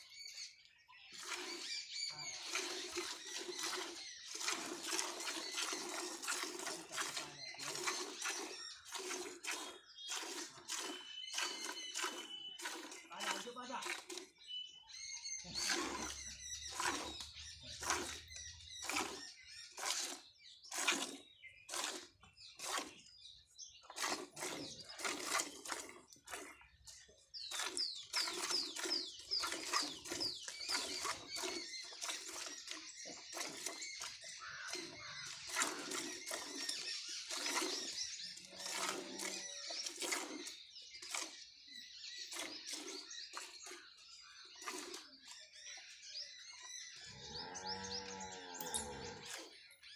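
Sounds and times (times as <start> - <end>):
birds chirping: 0.0 - 49.9
milk squirting into steel bucket: 1.1 - 14.4, 15.5 - 23.1, 23.8 - 41.5, 42.2 - 45.6.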